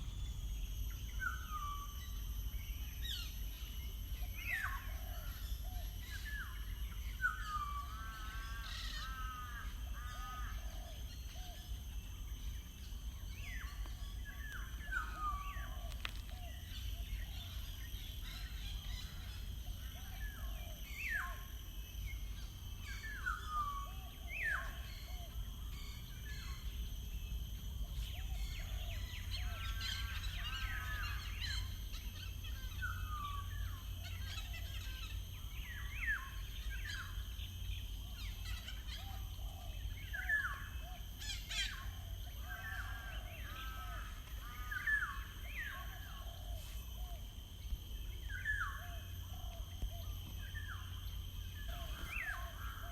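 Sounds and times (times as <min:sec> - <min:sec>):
songbirds singing: 0:00.0 - 0:52.9.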